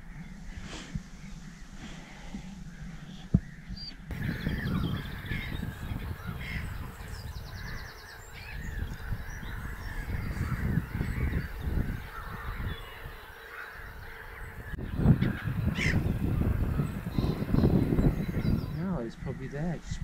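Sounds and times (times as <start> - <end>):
low uneven rumble: 0.0 - 20.0
wild birds calling: 0.0 - 20.0.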